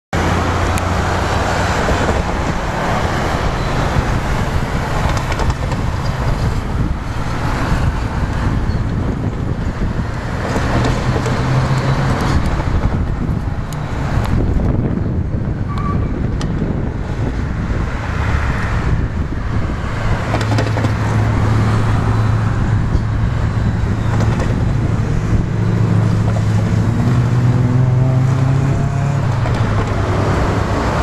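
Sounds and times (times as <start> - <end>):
train rumble and hum: 0.2 - 31.0
wind noise on microphone: 0.2 - 31.0.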